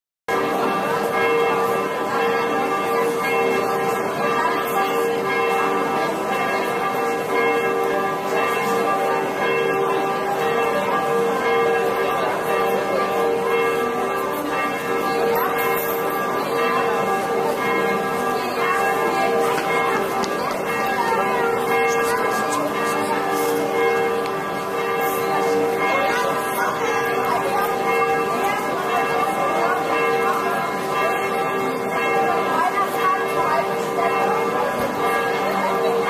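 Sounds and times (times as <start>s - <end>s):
church bells ringing: 0.3s - 36.0s.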